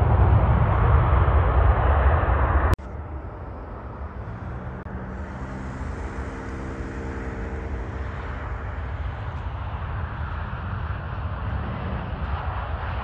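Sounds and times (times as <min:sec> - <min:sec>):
jet engine rumble: 0:00.0 - 0:13.0
steady engine tones: 0:00.0 - 0:13.0.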